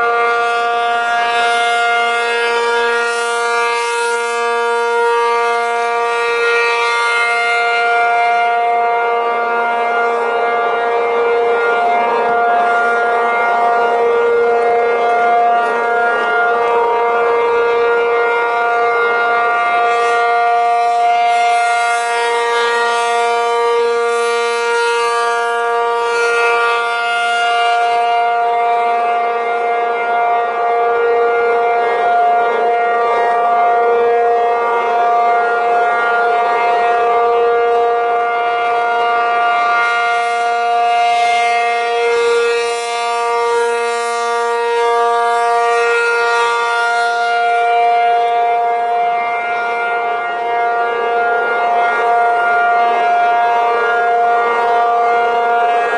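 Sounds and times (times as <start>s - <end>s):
rotating siren two-tone chord: 0.0s - 55.9s.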